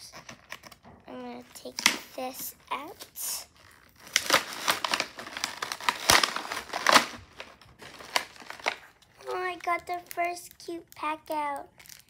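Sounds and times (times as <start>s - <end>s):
toy packaging crinkling: 0.1s - 12.0s.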